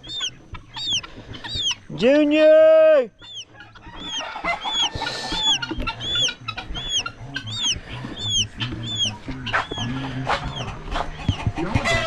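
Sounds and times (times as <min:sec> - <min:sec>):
chicken clucking: 0:00.0 - 0:12.0
chicks peeping: 0:00.0 - 0:12.0.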